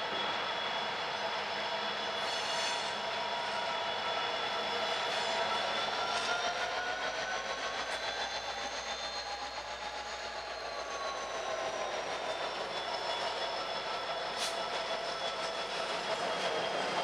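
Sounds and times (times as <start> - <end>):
freight train wheels on rail: 0.0 - 17.0.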